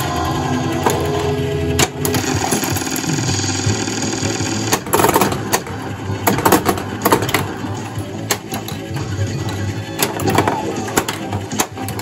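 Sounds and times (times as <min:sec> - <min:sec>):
pinball electronic sound effects: 0:00.0 - 0:12.0.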